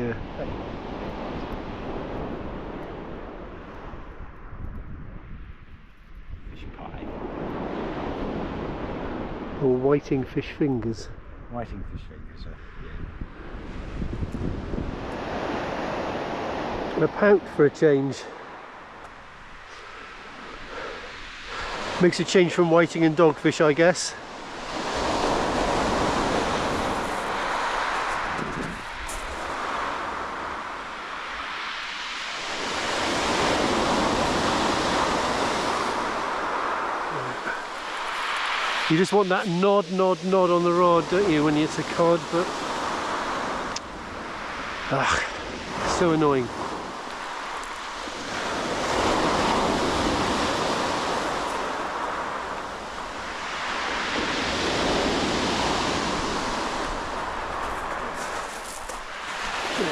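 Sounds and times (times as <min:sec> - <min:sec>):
surf washing on shingle beach: 0:00.0 - 0:04.6, 0:06.8 - 0:11.3, 0:12.6 - 0:59.9.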